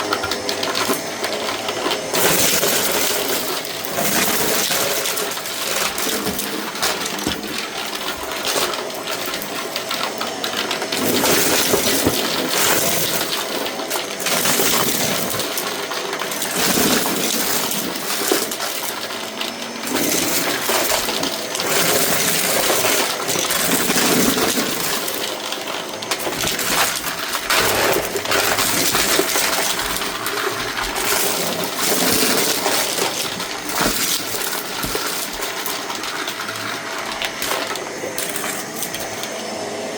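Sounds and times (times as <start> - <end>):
debris rattling through vacuum: 0.0 - 39.9
vacuum cleaner running: 0.0 - 39.9.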